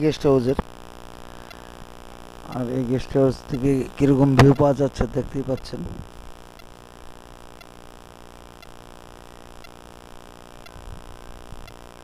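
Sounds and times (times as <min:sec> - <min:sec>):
faint ticking: 0:00.0 - 0:12.0
steady low hum: 0:00.0 - 0:12.0.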